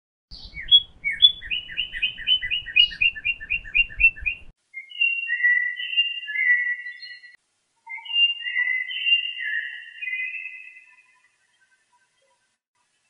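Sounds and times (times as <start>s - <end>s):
songbird chirping and whistling: 0.3s - 12.6s.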